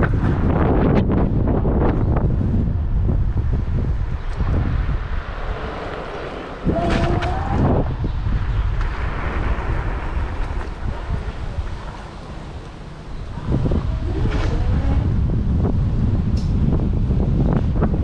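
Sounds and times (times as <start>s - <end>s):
low road rumble: 0.0s - 18.0s
wind buffeting microphone: 0.0s - 18.0s.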